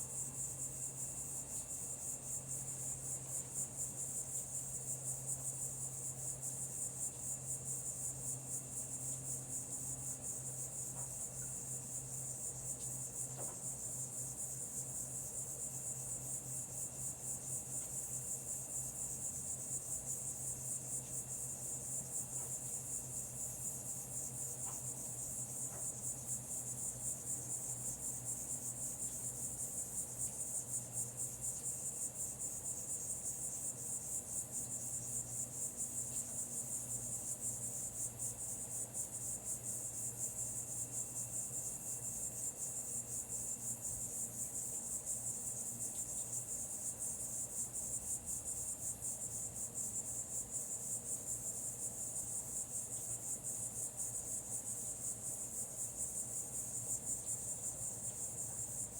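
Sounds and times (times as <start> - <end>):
insects trilling: 0.0 - 58.9.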